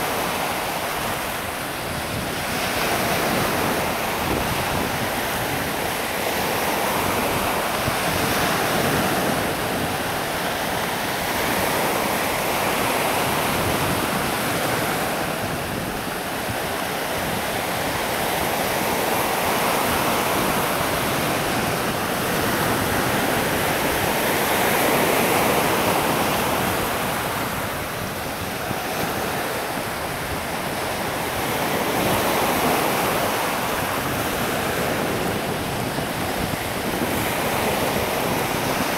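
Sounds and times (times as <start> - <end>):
sea waves: 0.0 - 38.9
wind: 0.0 - 38.9
wind buffeting microphone: 0.0 - 38.9.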